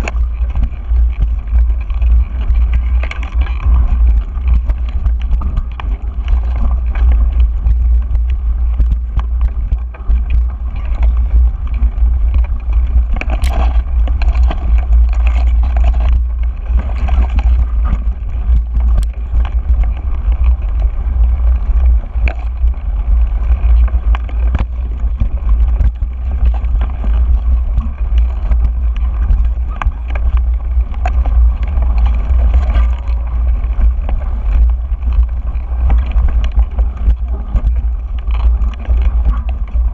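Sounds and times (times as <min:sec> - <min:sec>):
bike clicks and rattles: 0:00.0 - 0:39.9
bike tyres on dirt: 0:00.0 - 0:39.9
wind rumble on microphone: 0:00.0 - 0:39.9.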